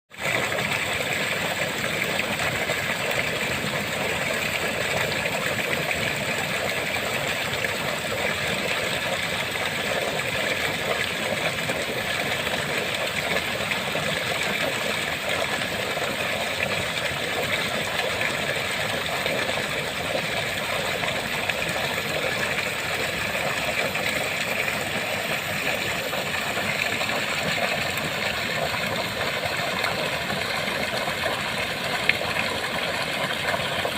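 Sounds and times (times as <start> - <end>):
waterfall pouring and splashing: 0.1 - 33.9.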